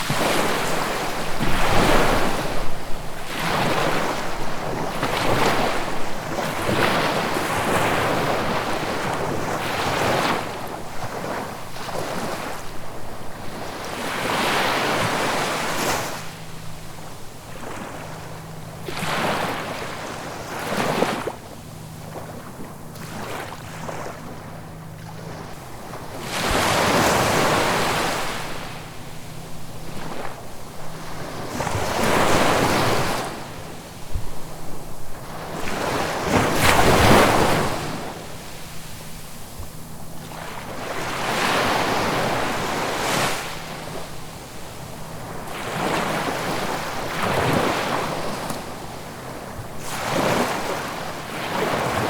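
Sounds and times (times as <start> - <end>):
ocean waves breaking on shore: 0.0 - 52.0.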